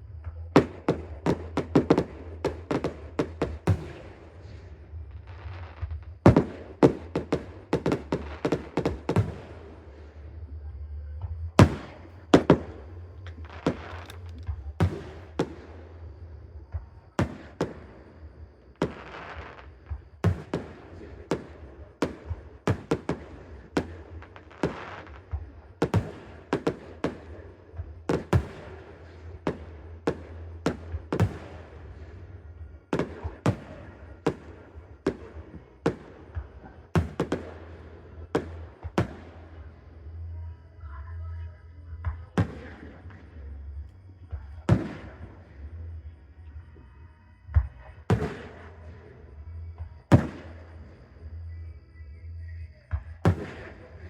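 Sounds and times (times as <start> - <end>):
steady low hum: 0.0 - 54.0
fireworks bangs and crackle: 0.2 - 10.4, 11.2 - 40.2, 42.0 - 43.5, 44.3 - 46.0, 47.5 - 51.5, 52.9 - 54.0.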